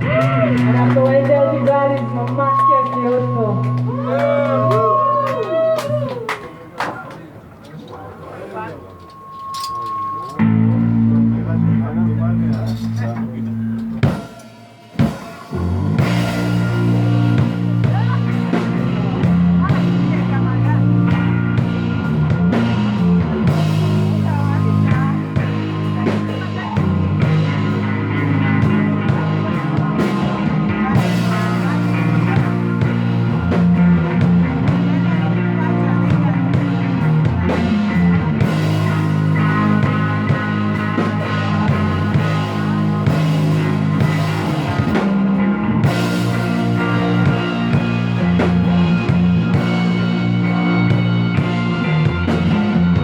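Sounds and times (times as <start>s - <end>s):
psychedelic rock instrumental: 0.0s - 53.0s.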